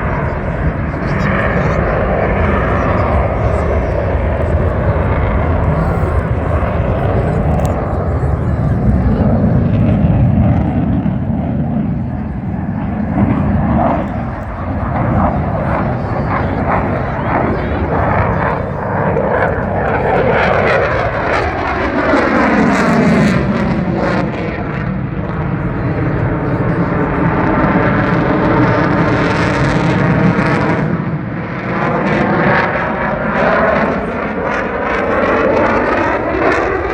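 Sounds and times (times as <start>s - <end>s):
faint voices: 0.0s - 36.9s
jet engines rumbling: 0.0s - 36.9s.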